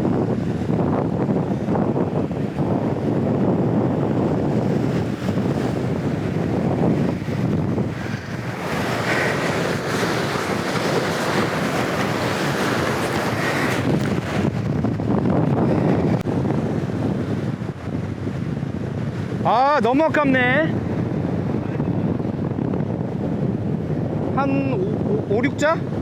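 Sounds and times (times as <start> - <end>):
waves breaking on shore: 0.0 - 26.0
wind buffeting microphone: 0.0 - 26.0.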